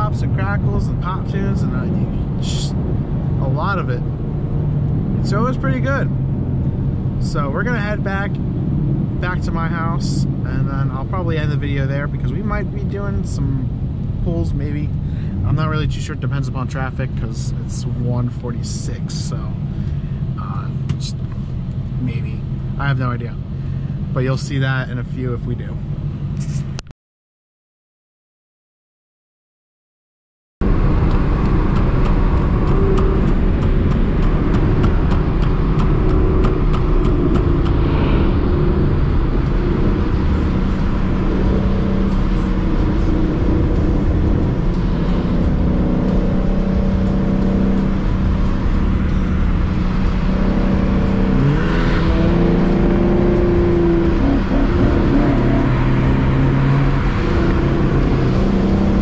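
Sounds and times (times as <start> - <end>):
car engine and exhaust droning: 0.0 - 26.8, 30.6 - 59.0
road noise: 0.0 - 26.8, 30.6 - 59.0.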